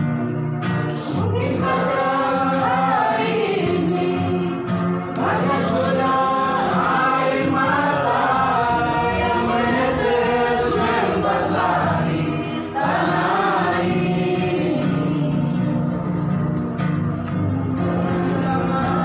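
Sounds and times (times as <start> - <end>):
group singing praise song: 1.0 - 19.0.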